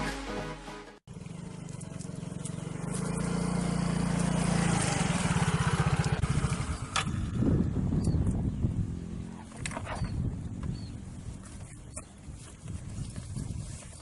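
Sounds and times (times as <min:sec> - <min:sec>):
engine running steadily: 0:01.1 - 0:12.5.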